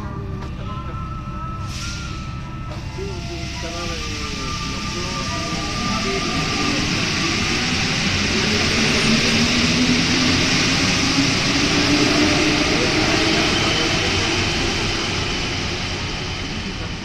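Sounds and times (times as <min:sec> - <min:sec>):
metro train rumble in tunnel: 0:00.0 - 0:17.0.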